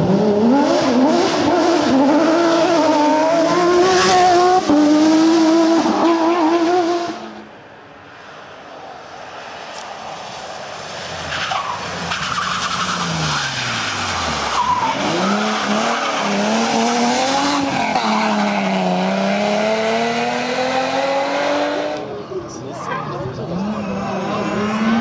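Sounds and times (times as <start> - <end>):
rally car engine: 0.0 - 25.0.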